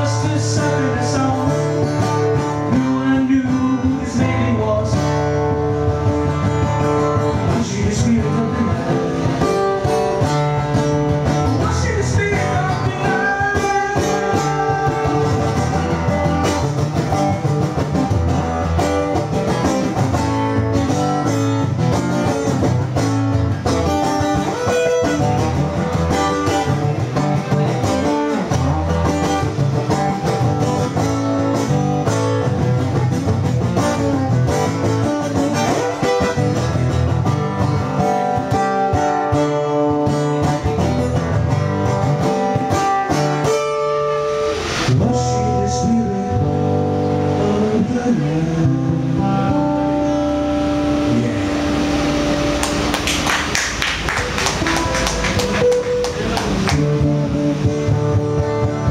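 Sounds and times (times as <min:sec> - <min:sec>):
acoustic guitar playing: 0:00.0 - 0:58.9.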